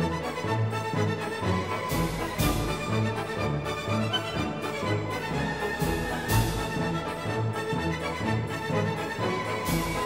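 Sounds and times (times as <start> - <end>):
orchestral music with steady beat: 0.0 - 10.0.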